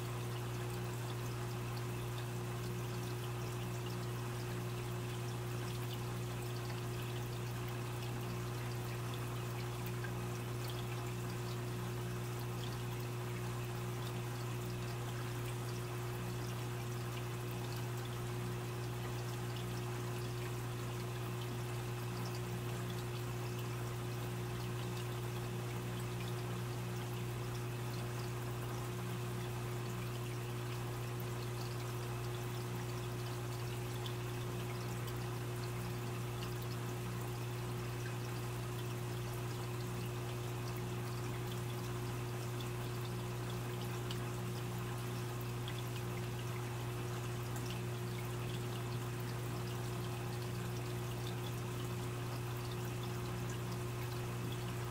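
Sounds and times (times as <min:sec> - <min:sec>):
low electric hum: 0:00.0 - 0:54.9
water trickling into tank: 0:00.0 - 0:54.9.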